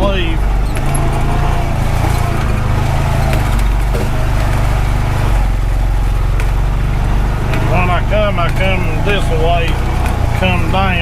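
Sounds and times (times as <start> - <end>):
knocks and rattles: 0.0 - 11.0
vehicle engine running: 0.0 - 11.0.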